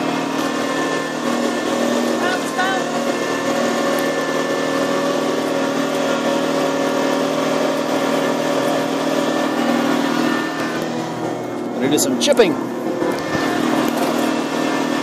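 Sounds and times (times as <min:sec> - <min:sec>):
electric tractor motor humming: 0:00.0 - 0:15.0.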